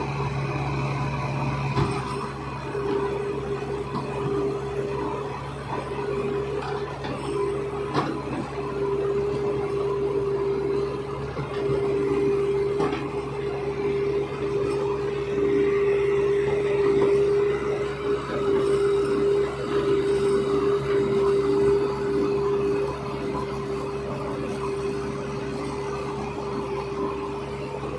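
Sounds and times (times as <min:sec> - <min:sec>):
diesel engines running: 0:00.0 - 0:27.9.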